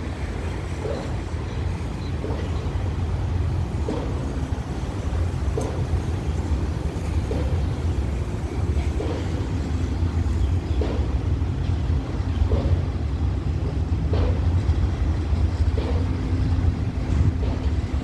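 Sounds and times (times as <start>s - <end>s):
diesel locomotive engine drone: 0.0s - 18.0s.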